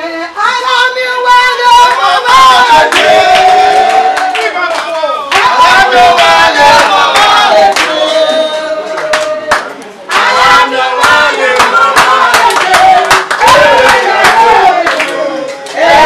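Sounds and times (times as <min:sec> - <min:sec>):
group singing: 0:00.0 - 0:16.0
people clapping: 0:01.5 - 0:16.0.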